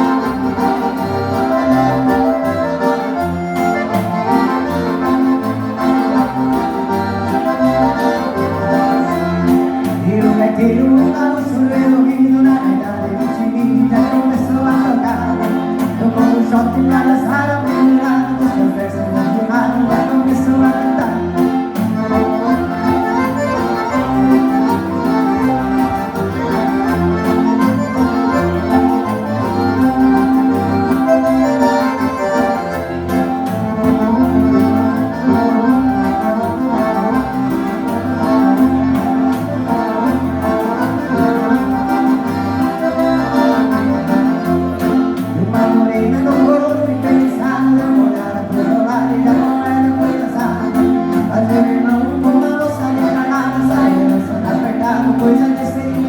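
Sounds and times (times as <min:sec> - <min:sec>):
accordion dance music: 0:00.0 - 0:56.0
rhythmic bass beat: 0:00.0 - 0:56.0.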